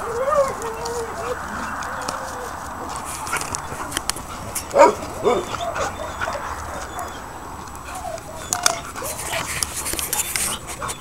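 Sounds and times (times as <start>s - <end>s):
husky whining yips: 0.0s - 11.0s.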